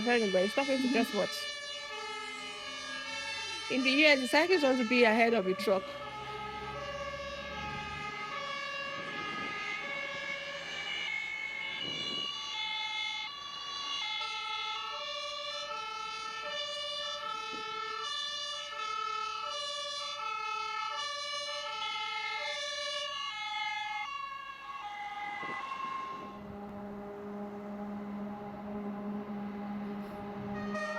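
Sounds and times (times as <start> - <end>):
two-tone fire engine sirens: 0.0 - 30.9.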